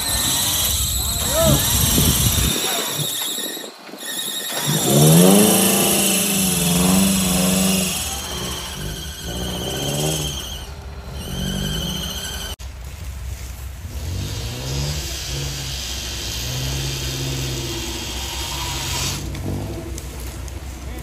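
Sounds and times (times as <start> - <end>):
off-road engine revving: 0.0 - 3.2, 4.5 - 21.0.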